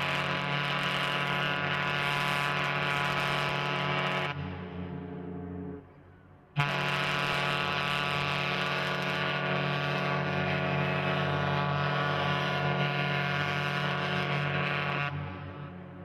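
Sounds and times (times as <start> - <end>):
low ship's horn blast: 0.0 - 16.0.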